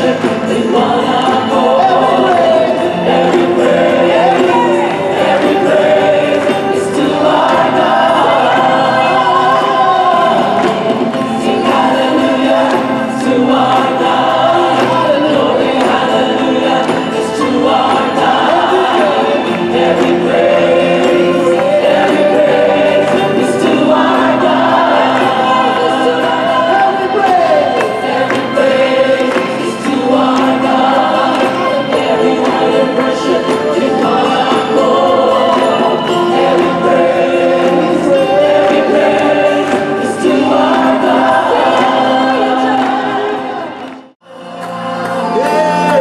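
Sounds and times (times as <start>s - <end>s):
group singing worship song: 0.0s - 46.0s
live band playing: 0.0s - 46.0s.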